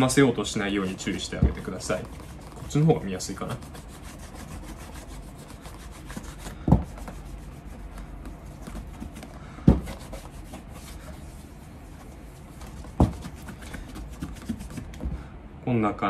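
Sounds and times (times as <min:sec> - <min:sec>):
cloth rubbing on leather: 0:00.0 - 0:15.0.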